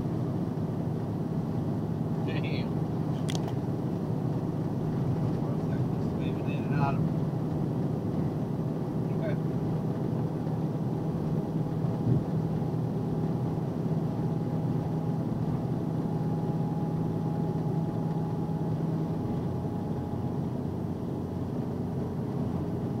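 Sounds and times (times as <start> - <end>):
low hum: 0.0 - 23.0
road and engine drone: 0.0 - 23.0.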